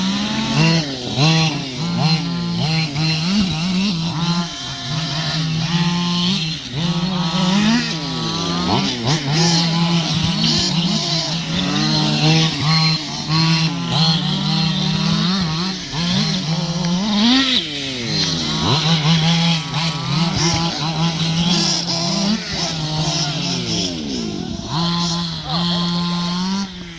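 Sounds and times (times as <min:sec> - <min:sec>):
remote control car motors whining: 0:00.0 - 0:26.9.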